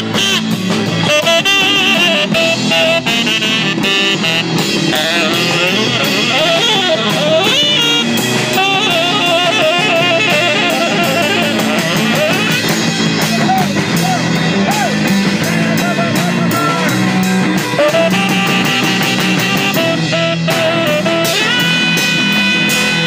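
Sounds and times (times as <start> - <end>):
lead guitar: 0.0 - 23.0
live band playing: 0.0 - 23.0.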